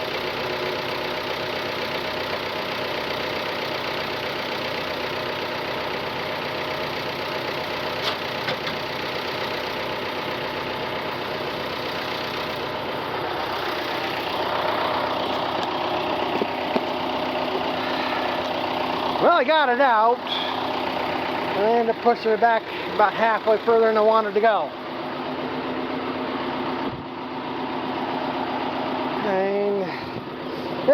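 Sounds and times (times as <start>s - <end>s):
machine engine running: 0.0s - 30.9s.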